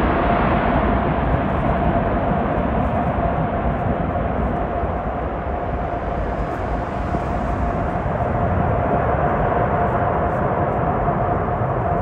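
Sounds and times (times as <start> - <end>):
jet engines rushing and whining: 0.0 - 12.0.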